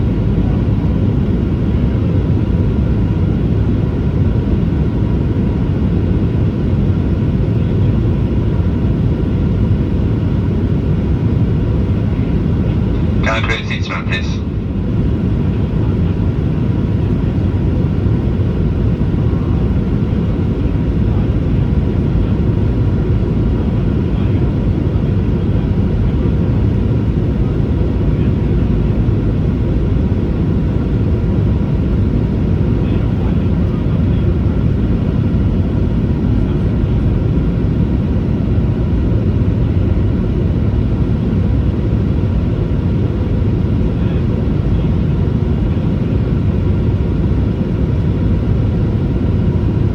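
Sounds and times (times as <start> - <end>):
jet engines and airflow rumble: 0.0 - 49.9.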